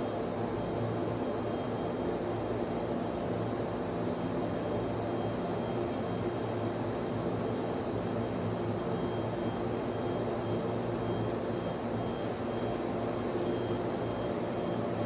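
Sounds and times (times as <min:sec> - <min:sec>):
cooling fans droning: 0:00.0 - 0:15.0.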